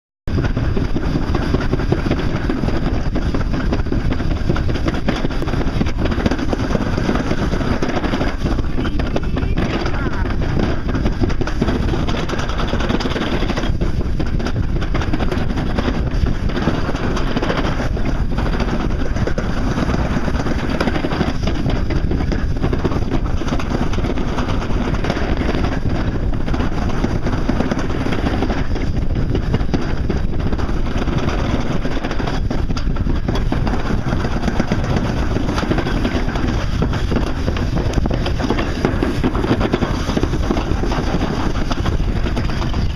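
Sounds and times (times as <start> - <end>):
sled rumbling on metal track: 0.3 - 42.9
wind on microphone: 0.3 - 42.9.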